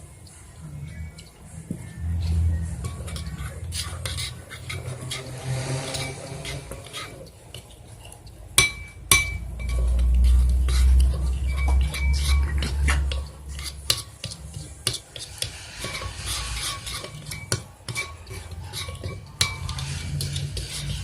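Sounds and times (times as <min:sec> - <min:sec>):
stirrer scraping slime container: 0:00.8 - 0:08.2, 0:09.6 - 0:21.0.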